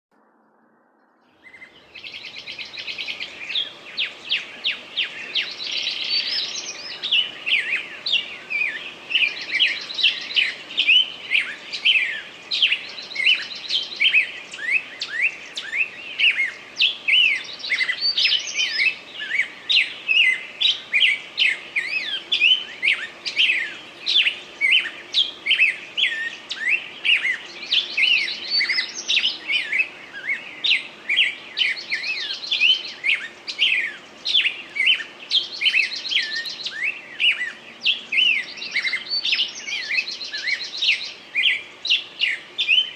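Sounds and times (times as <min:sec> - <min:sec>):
small birds chirping: 0:00.5 - 0:42.9.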